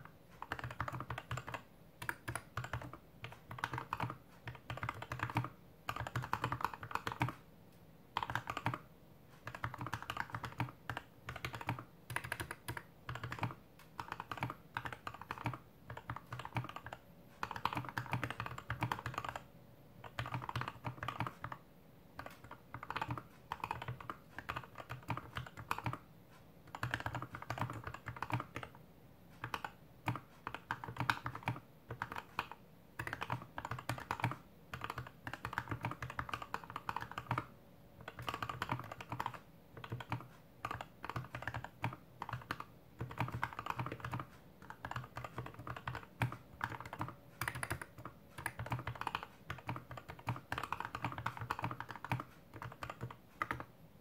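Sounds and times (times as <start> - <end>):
mechanical keyboard typing: 0.0 - 7.5, 8.1 - 53.8.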